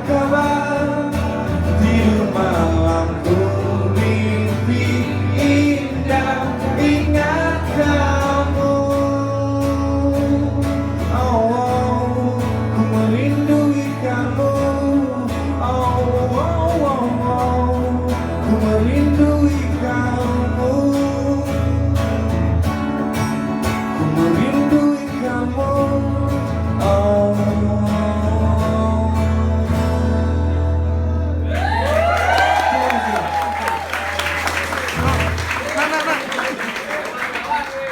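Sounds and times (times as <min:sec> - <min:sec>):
strummed acoustic guitar: 0:00.0 - 0:31.5, 0:34.9 - 0:35.6
steady bass: 0:00.0 - 0:31.6.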